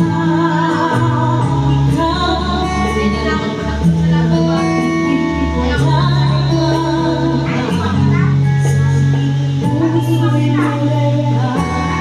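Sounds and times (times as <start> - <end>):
instrumental backing music: 0.0 - 12.0
woman singing into microphone: 0.0 - 12.0.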